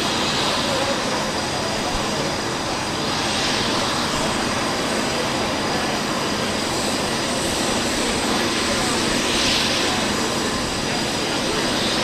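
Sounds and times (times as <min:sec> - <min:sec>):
aircraft engine rushing: 0:00.0 - 0:12.0.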